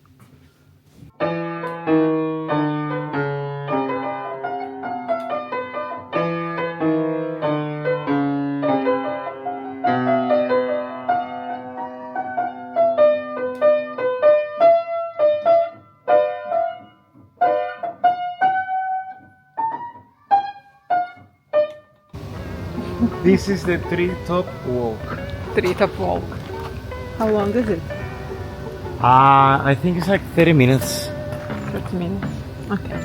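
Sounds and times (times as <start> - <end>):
solo piano music: 1.1 - 33.0.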